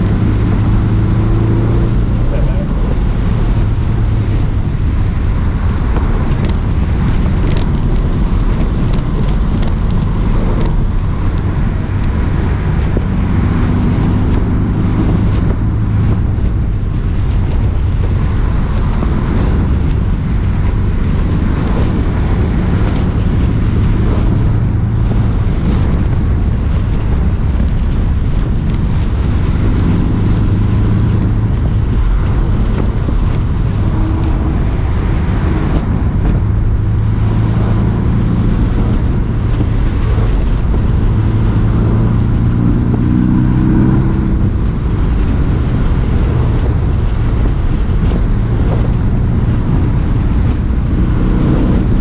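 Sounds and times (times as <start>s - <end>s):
car engine running: 0.0s - 52.0s
wind and road noise: 0.0s - 52.0s.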